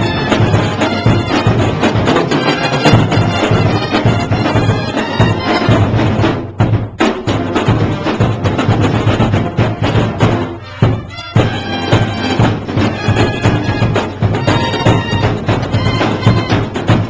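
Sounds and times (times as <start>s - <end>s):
marching band playing: 0.0s - 17.0s
pounding drum beat: 0.0s - 17.0s.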